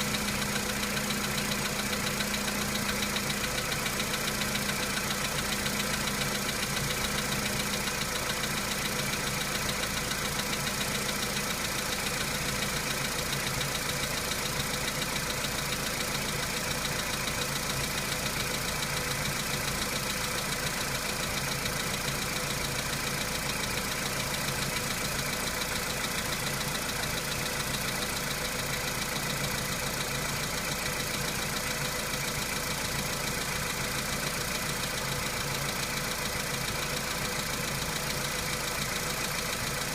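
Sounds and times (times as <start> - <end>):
petrol engine idling: 0.0 - 39.9
rapid even engine knock: 0.0 - 39.9.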